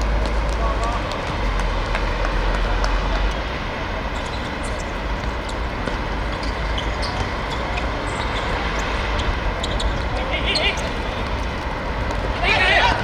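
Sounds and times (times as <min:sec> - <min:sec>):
outdoor rumble: 0:00.0 - 0:13.0.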